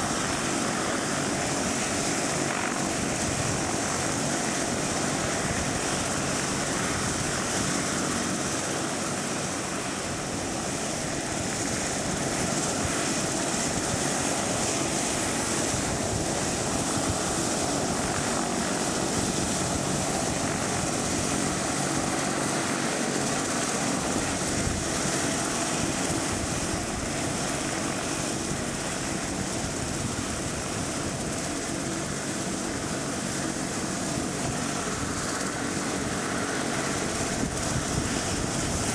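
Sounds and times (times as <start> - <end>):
helicopter turbine and rotor noise: 0.0 - 38.9.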